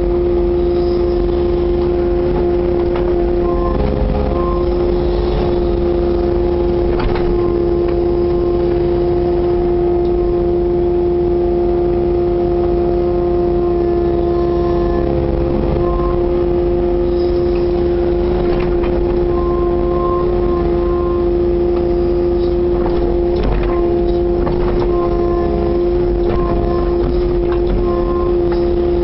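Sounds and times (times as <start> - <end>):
excavator engine rumble: 0.0 - 29.0
hydraulic whine: 0.0 - 29.0.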